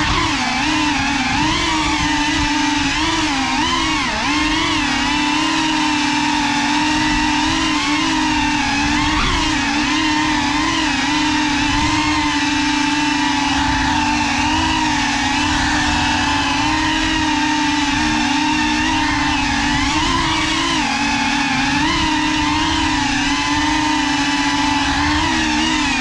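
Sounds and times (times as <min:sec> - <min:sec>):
drone propeller whine: 0:00.0 - 0:26.0.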